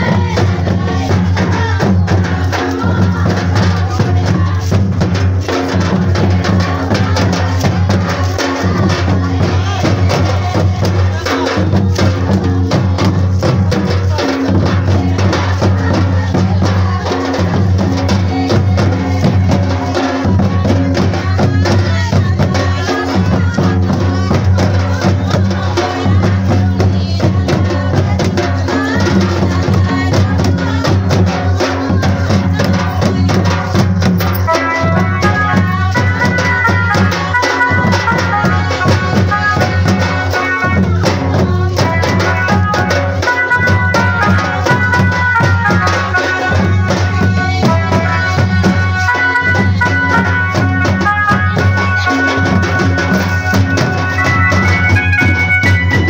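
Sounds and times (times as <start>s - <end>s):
clacking percussion: 0.0s - 56.0s
folk dance music: 0.0s - 56.0s
rapid drumming: 0.0s - 56.0s.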